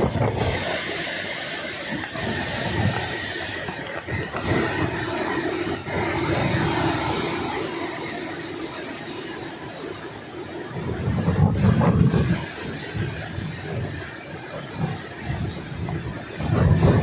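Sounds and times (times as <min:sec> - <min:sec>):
strong wind gusting through trees: 0:00.0 - 0:17.0
wind buffeting microphone: 0:00.0 - 0:17.0.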